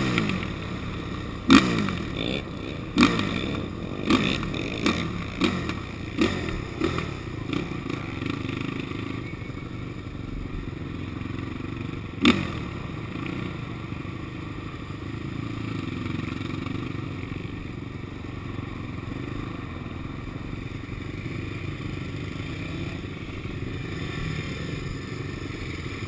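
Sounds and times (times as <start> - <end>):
atv engine at low revs: 0.0 - 26.0.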